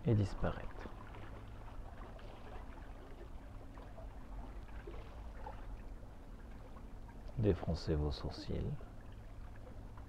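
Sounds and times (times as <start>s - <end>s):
constant low hum: 0.0s - 10.0s
sea water lapping at shore: 0.0s - 10.0s.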